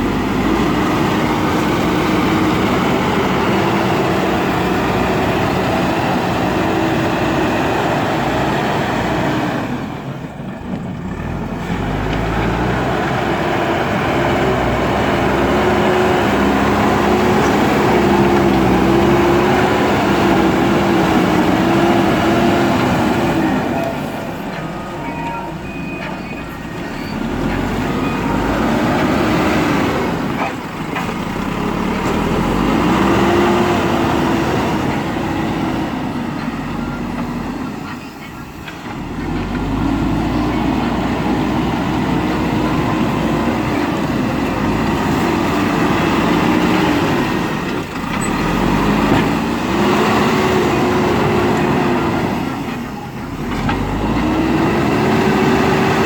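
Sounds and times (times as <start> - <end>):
backhoe diesel engine working: 0.0 - 56.0.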